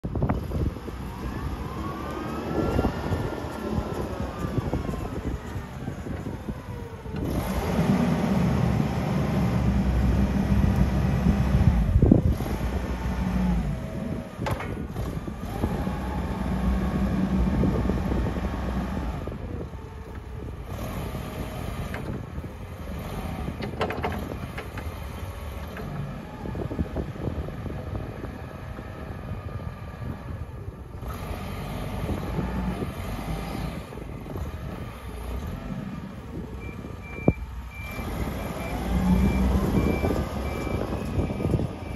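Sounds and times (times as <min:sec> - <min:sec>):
forklift engine running: 0:00.0 - 0:41.9.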